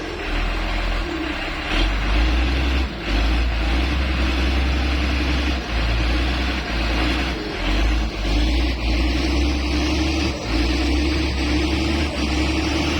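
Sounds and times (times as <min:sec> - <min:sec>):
diesel engine rumbling under load: 0:00.0 - 0:12.9.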